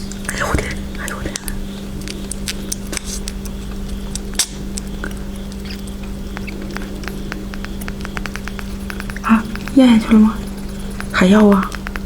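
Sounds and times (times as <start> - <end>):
small animal chewing and crunching: 0.0 - 12.0
steady low hum: 0.0 - 12.0.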